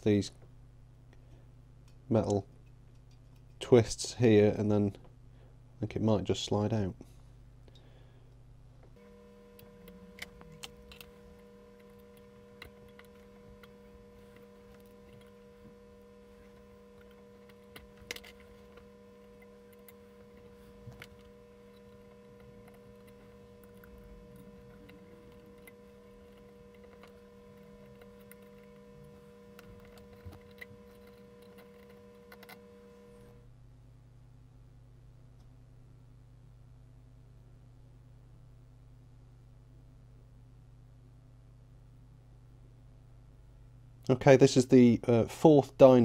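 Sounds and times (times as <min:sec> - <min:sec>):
faint electrical hum: 0:00.0 - 0:46.0.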